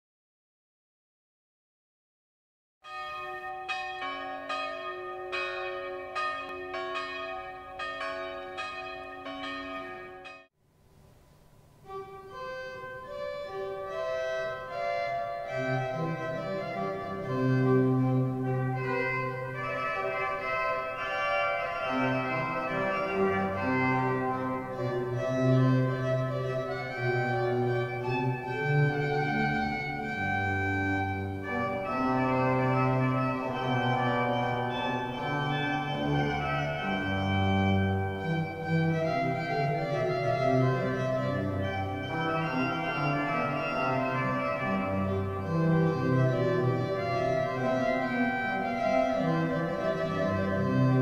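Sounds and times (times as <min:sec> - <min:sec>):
pipe organ playing chords: 0:02.9 - 0:10.5, 0:11.7 - 0:51.0.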